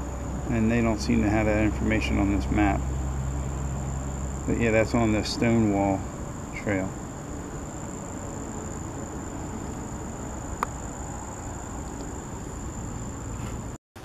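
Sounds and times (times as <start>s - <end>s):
insects singing: 0.0s - 13.8s.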